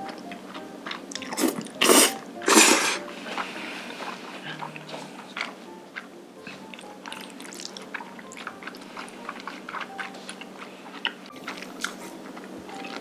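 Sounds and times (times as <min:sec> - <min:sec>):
wet chewing smacks: 0:00.0 - 0:02.2, 0:03.2 - 0:13.0
soft background music: 0:00.0 - 0:13.0.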